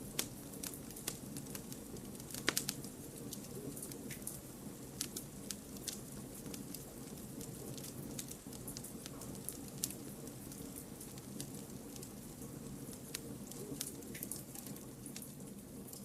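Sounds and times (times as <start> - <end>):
fire flame rushing: 0.0 - 15.4
burning logs crackling: 0.0 - 16.0.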